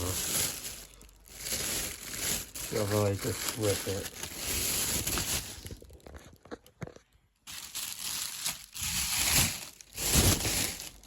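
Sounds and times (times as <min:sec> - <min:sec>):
plastic bag ripping and crinkling: 0:00.0 - 0:06.5, 0:07.5 - 0:11.0.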